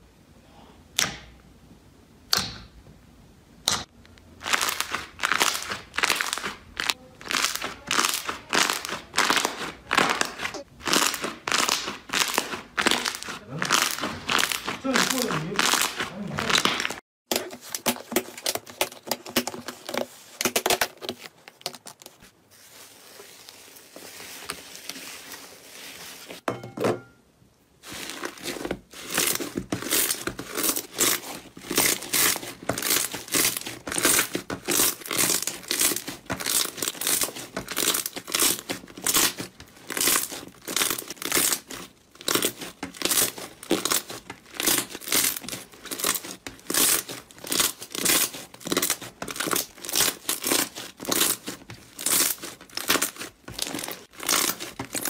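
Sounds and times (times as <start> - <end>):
slime crackling and popping: 3.7 - 22.2, 27.8 - 55.0.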